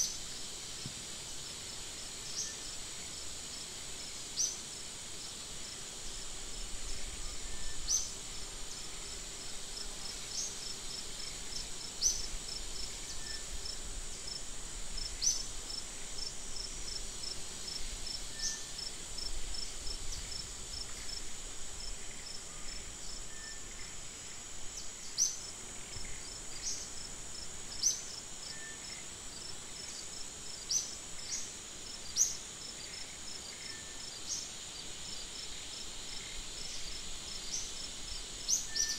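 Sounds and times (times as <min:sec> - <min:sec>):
rising insect chirp: 0:01.5 - 0:38.9.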